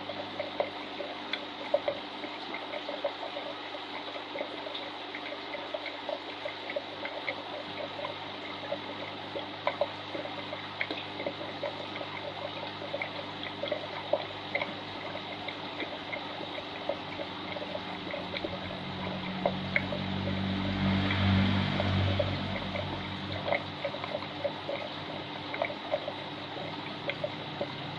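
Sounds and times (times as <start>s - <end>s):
small water drips and plops: 0.0s - 27.9s
water trickling and splashing: 0.0s - 27.9s.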